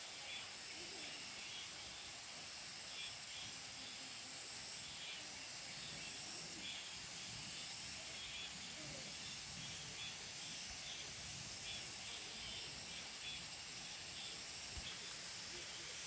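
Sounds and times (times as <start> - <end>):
faint distant voices: 0.0 - 16.0
high-pitched forest hiss: 0.0 - 16.0.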